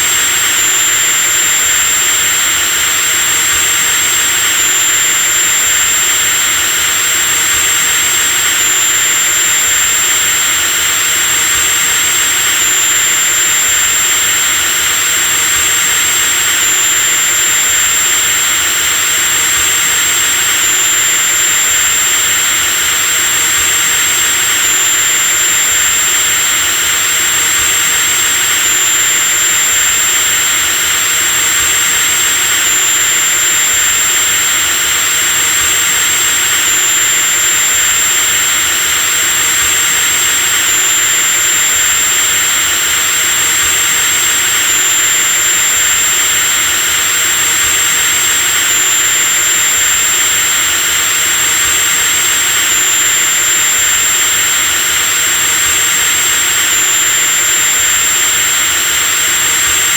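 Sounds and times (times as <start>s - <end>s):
electric drill running: 0.0s - 59.9s.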